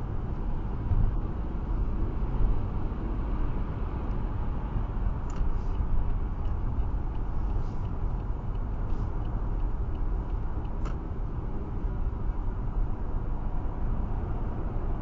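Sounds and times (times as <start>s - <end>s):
car engine: 0.0s - 14.9s.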